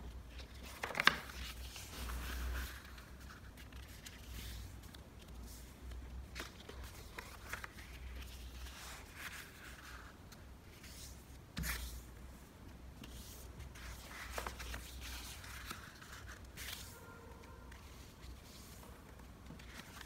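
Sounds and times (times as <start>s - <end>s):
paper crinkling and creasing: 0.2s - 12.1s, 13.0s - 20.0s.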